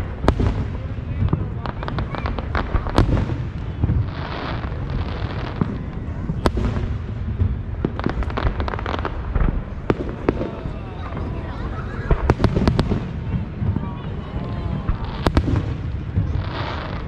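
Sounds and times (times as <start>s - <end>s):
distant fireworks booms: 0.0s - 17.0s
firework cracks and pops: 0.0s - 17.0s
rapid firework crackles: 0.0s - 17.0s.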